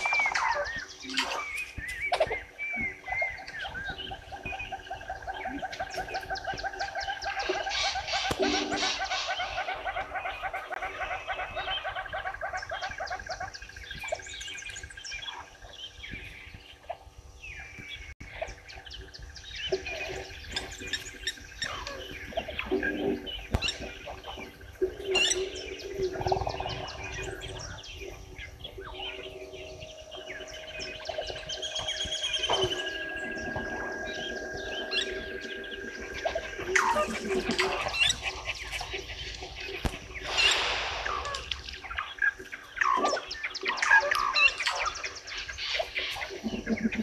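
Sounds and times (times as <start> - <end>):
birds chirping and calling: 0.0 - 47.0.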